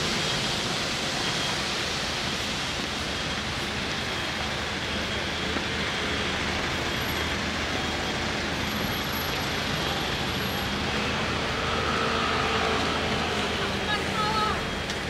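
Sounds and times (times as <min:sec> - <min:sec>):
vehicles passing on street: 0:00.0 - 0:15.0.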